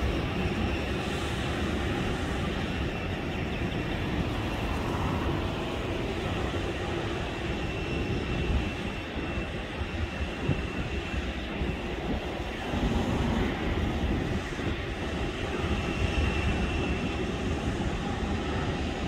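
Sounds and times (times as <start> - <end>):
jet aircraft rumble and hiss: 0.0 - 19.0
wind buffeting microphone: 0.0 - 19.0.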